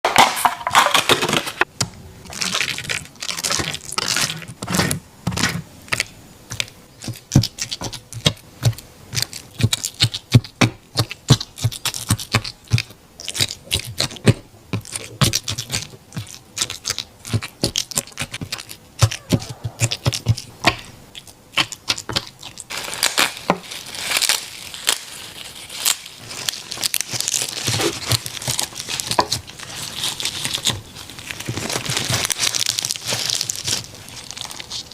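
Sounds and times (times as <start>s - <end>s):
dog crunching and chewing food: 2.2s - 34.9s.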